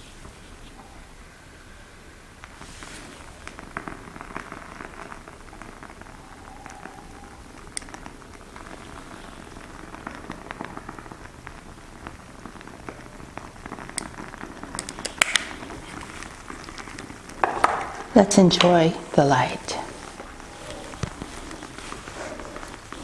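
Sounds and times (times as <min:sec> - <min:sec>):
faint crackling: 0:00.0 - 0:23.0.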